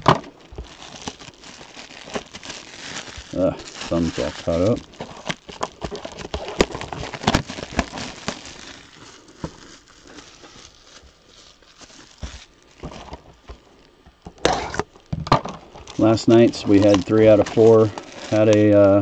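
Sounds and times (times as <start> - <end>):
cellophane wrap crinkling: 0.0 - 19.0.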